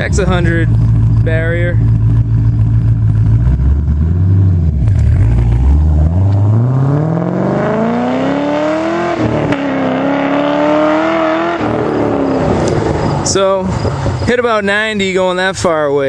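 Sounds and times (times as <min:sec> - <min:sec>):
car engine accelerating: 0:00.0 - 0:14.6.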